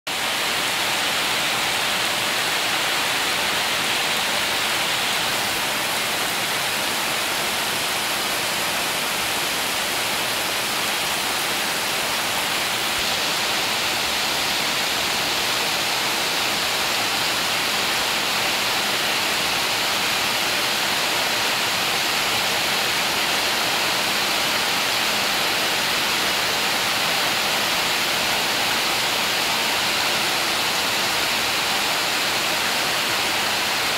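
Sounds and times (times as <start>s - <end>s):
heavy rain on tin roofs: 0.1s - 33.9s.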